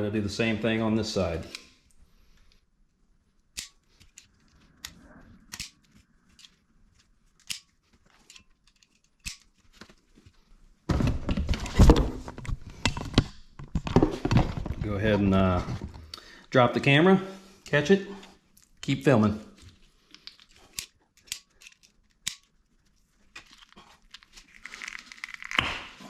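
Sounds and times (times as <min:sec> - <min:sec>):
rustling and handling noise: 0:00.4 - 0:26.0.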